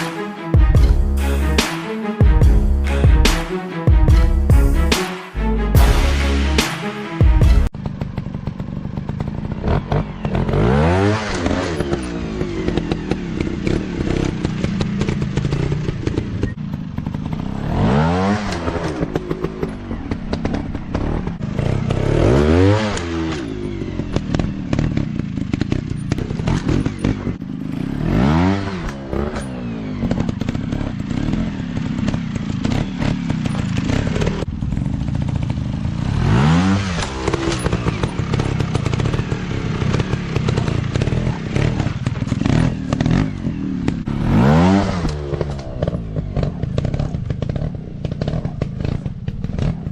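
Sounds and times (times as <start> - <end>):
dirt bike engines revving: 7.7 - 49.9.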